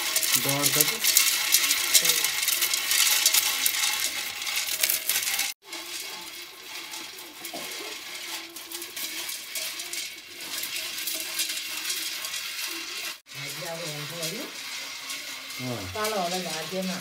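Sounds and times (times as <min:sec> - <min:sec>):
sticks scraping inside clay pot: 0:00.0 - 0:17.0.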